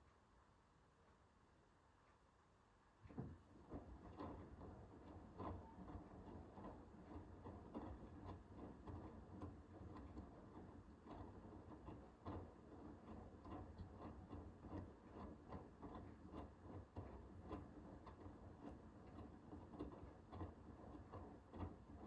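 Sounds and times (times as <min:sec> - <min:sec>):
small irregular clicks and ticks: 0:03.0 - 0:22.0
washing machine humming: 0:03.0 - 0:22.0.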